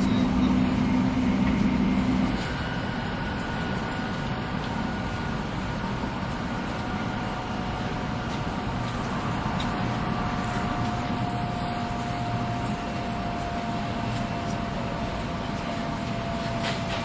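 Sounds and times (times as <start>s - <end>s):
train wheels and air rumble: 0.0s - 17.0s.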